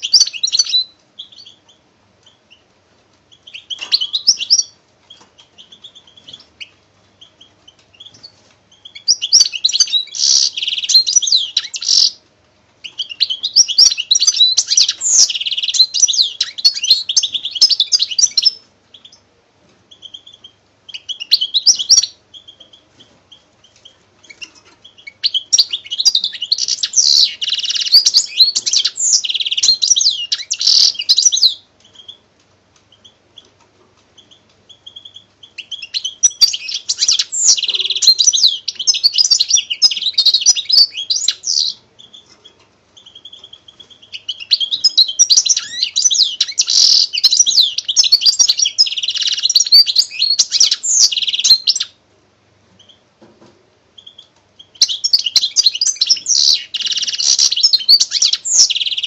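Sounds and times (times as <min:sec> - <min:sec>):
songbird twittering and trilling: 0:00.0 - 0:02.7, 0:03.3 - 0:12.2, 0:12.8 - 0:19.3, 0:19.9 - 0:32.2, 0:34.2 - 0:52.0, 0:54.0 - 0:59.0.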